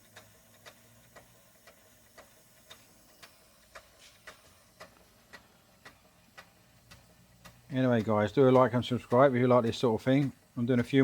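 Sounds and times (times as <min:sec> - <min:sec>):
model steam engine ticking: 0:00.0 - 0:11.0.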